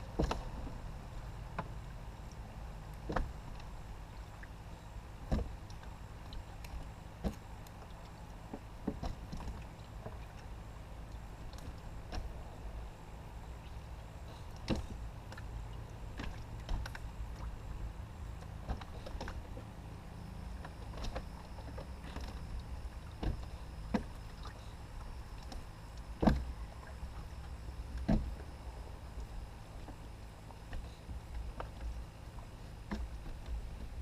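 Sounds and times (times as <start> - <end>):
knocks and clicks in boat: 0.0 - 34.0
steady low rumble: 0.0 - 34.0.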